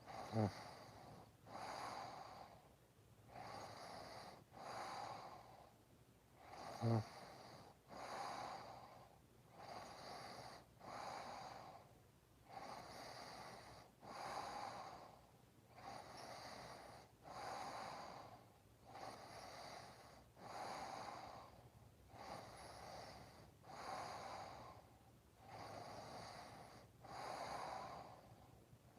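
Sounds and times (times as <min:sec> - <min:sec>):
faint snoring breaths: 0:00.0 - 0:05.8, 0:06.4 - 0:28.6.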